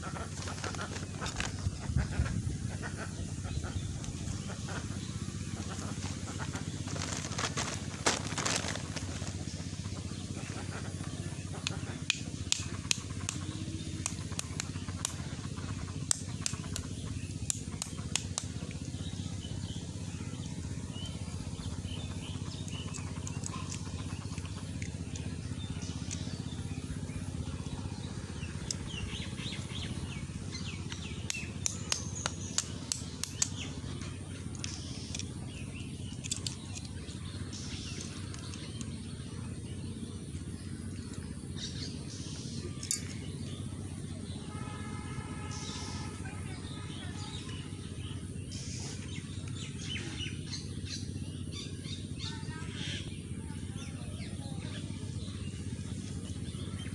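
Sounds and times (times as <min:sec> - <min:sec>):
birds chirping: 0:00.0 - 0:56.9
low outdoor rumble: 0:00.0 - 0:56.9.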